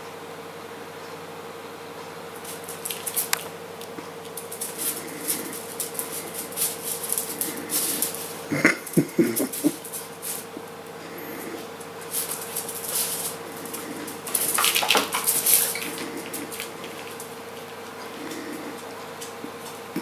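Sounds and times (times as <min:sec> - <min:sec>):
dog claws clicking on hard floor: 0:02.4 - 0:10.7, 0:11.6 - 0:20.0.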